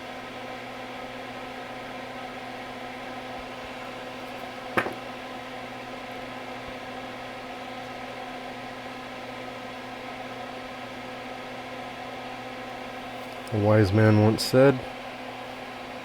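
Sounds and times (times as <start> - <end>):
small fan whirring hum: 0.0 - 16.0.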